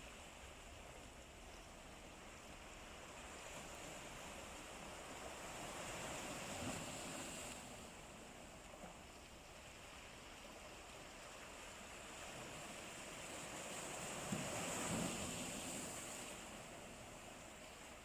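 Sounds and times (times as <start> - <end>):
sea waves washing on shore: 0.0 - 18.0.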